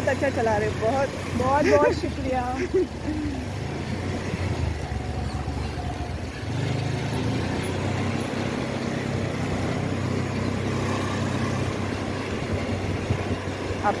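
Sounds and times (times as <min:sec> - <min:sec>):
road and wind noise: 0:00.0 - 0:14.0
scooter engine hum: 0:00.0 - 0:14.0.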